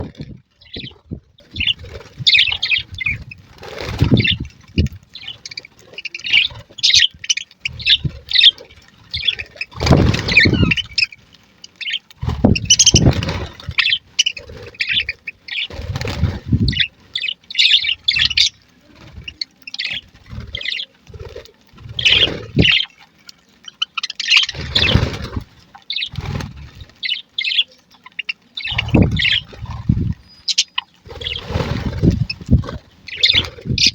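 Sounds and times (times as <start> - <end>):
budgerigars chirping: 1.5 - 4.5, 5.1 - 21.0, 21.9 - 22.9, 23.7 - 33.9.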